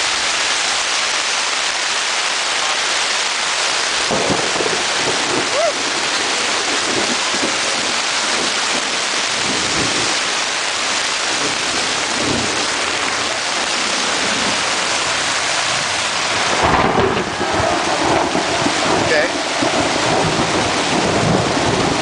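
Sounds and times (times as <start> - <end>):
heavy rain on tent fabric: 0.0 - 22.0
thunder rumbling: 3.9 - 22.0.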